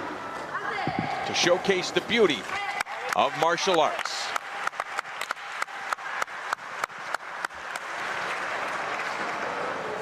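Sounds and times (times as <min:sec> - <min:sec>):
crowd clapping: 0:01.7 - 0:10.0.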